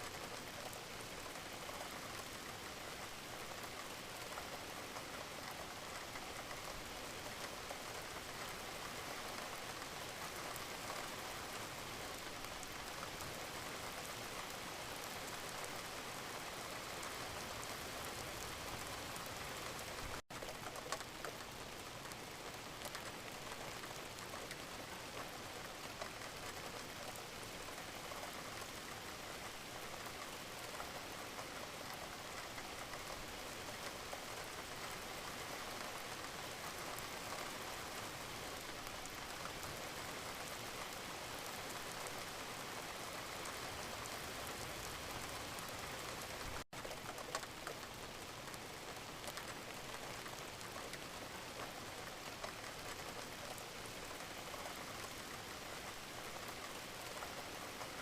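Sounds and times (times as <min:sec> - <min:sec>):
gentle rain: 0:00.0 - 0:58.0.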